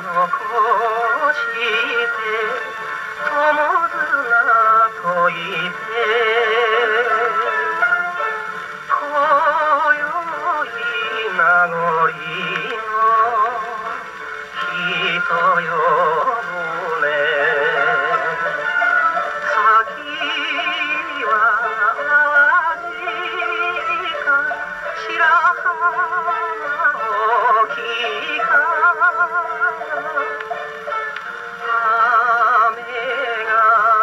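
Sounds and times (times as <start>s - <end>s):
man singing with vibrato: 0.0s - 34.0s
small band playing: 0.0s - 34.0s.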